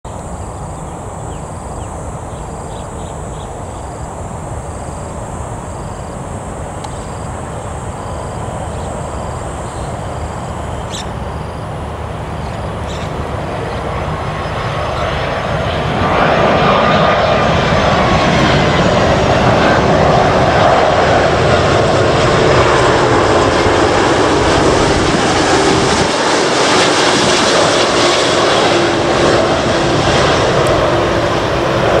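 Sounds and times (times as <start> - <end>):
jet engine whine: 0.0 - 32.0
jet airplane passing overhead: 0.1 - 32.0.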